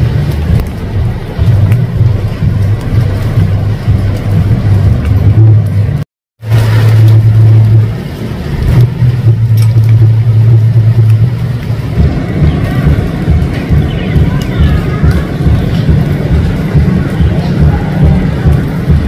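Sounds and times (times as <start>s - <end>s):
amplified bass guitar droning: 0.0s - 19.0s.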